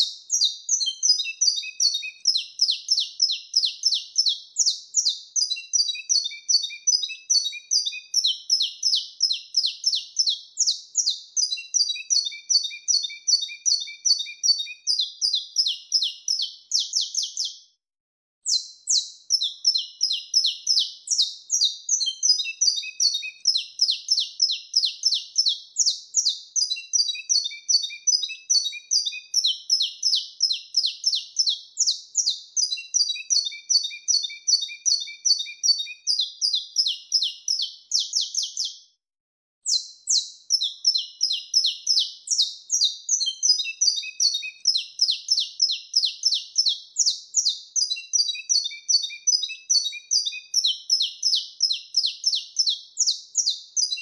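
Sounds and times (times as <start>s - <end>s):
finch singing high chirps: 0.0s - 17.7s, 18.4s - 38.9s, 39.6s - 54.0s.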